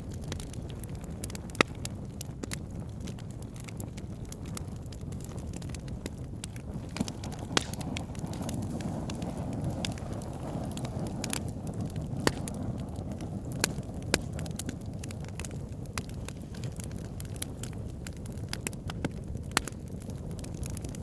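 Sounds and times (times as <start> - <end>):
campfire flames rumbling: 0.0 - 21.0
fire crackling and popping: 0.0 - 21.0.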